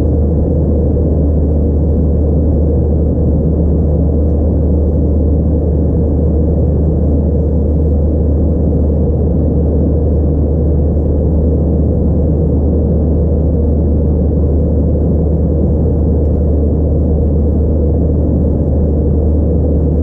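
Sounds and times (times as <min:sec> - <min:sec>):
jet engine hum: 0:00.0 - 0:20.0.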